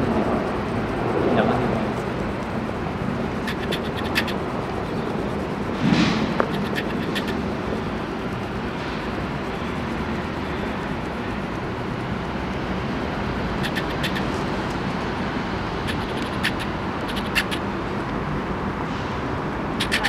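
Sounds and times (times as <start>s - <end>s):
low outdoor rumble: 0.0s - 19.8s.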